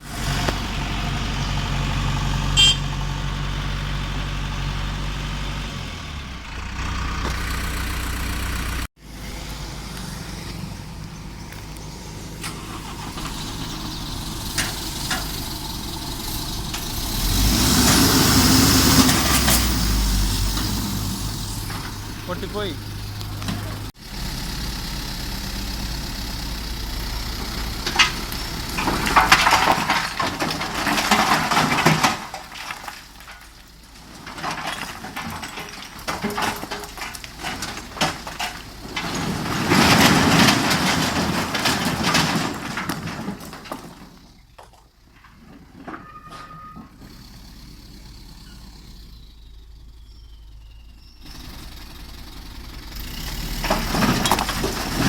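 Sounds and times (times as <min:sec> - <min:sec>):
heavy machinery and trucks running: 0:00.0 - 0:55.0.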